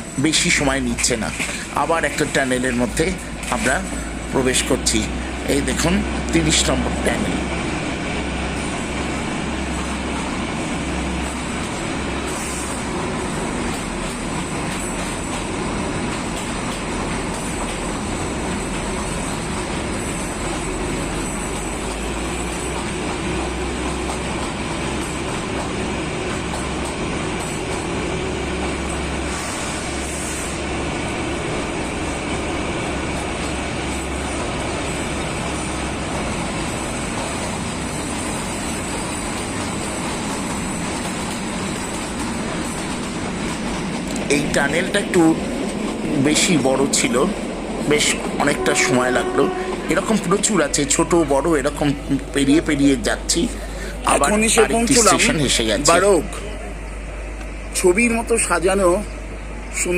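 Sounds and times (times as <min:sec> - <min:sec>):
train rumbling on rails in tunnel: 0:00.0 - 0:59.9.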